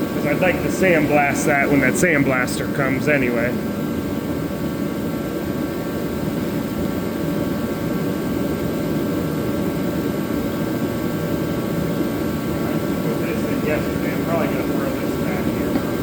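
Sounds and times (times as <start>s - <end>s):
space heater blower: 0.0s - 16.0s.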